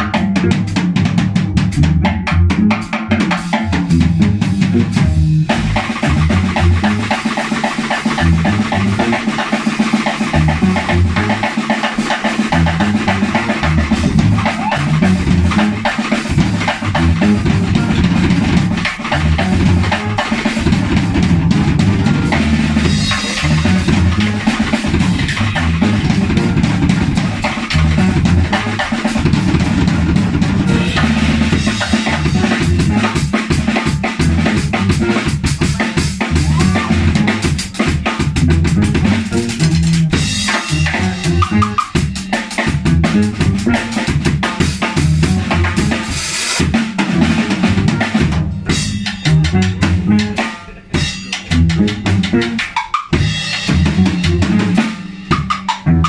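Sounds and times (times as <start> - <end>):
bass guitar line: 0.0 - 56.0
drum kit played hard: 0.0 - 56.0.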